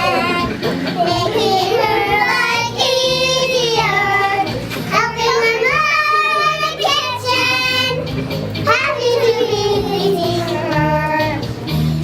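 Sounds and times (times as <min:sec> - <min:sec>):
children singing: 0:00.0 - 0:11.5
backing track: 0:00.0 - 0:12.0.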